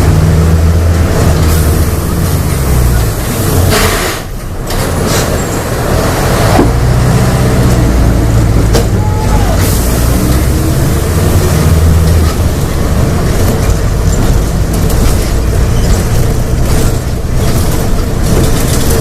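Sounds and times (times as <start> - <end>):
bus diesel engine revving hard: 0.0 - 19.0.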